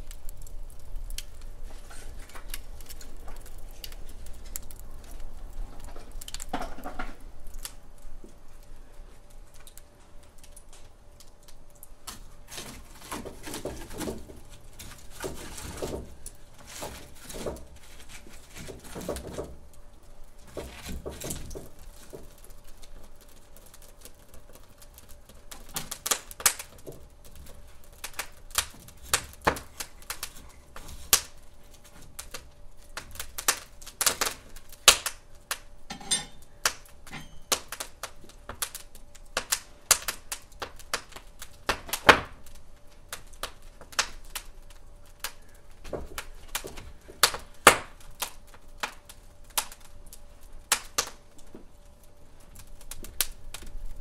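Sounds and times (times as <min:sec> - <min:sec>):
faint steady hum: 0:00.0 - 0:54.0
wood fire crackling and popping: 0:00.0 - 0:54.0.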